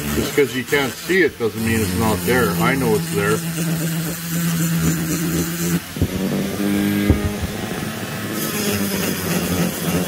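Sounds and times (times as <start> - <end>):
die grinder whining on metal: 0.0 - 10.0.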